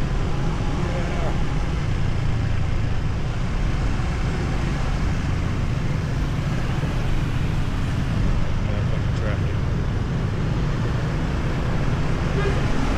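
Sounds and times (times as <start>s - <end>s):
road noise: 0.0s - 12.9s.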